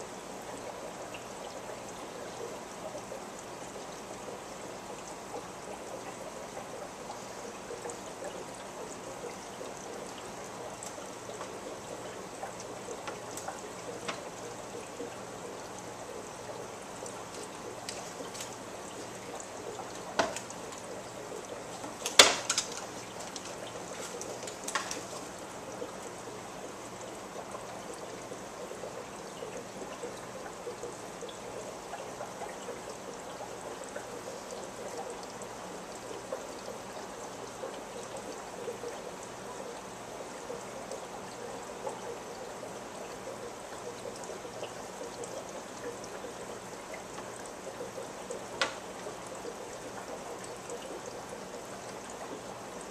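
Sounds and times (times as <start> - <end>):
aquarium filter bubbling water: 0.0 - 52.9.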